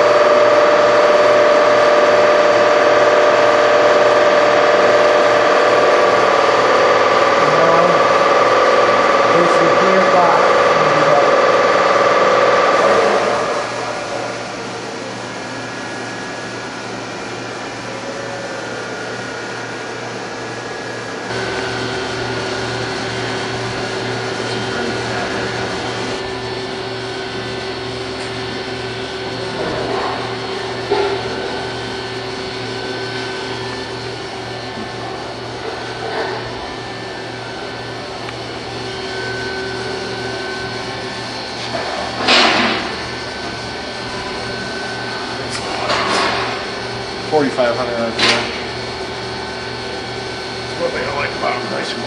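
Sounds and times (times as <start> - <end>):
machine hum: 0.0 - 52.0
spindle whine: 0.0 - 52.0.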